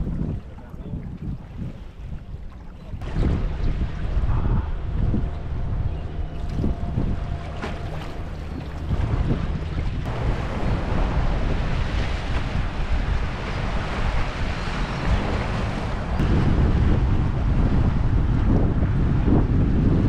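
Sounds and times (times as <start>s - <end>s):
waves washing: 0.0s - 20.0s
wind buffeting the microphone: 0.0s - 20.0s.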